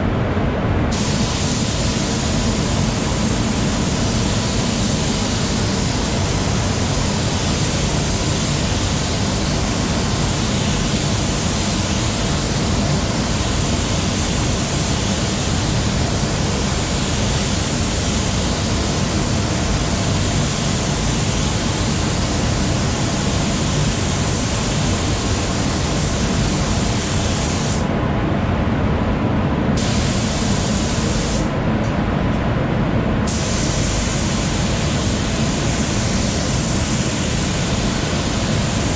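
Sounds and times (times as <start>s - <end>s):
extraction fans humming: 0.0s - 38.9s
spray gun hissing: 0.9s - 27.9s, 29.8s - 31.5s, 33.3s - 38.9s.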